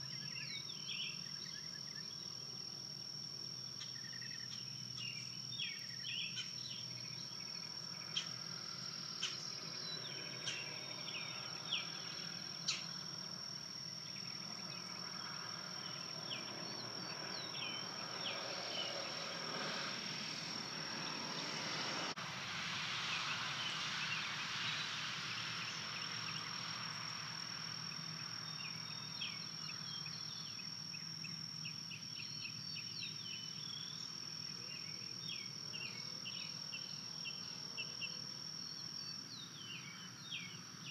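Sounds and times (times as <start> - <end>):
high-pitched insect trill: 0.0 - 40.9.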